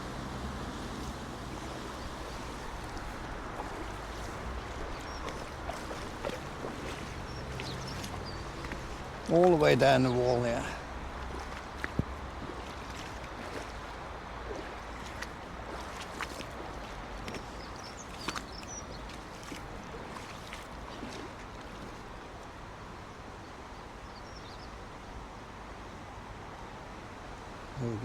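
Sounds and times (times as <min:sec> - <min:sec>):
stream running water: 0:00.0 - 0:28.0.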